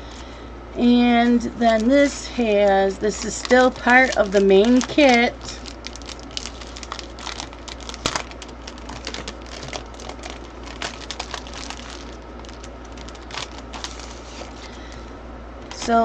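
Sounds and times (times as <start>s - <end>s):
plastic packaging crinkling: 1.3s - 16.0s.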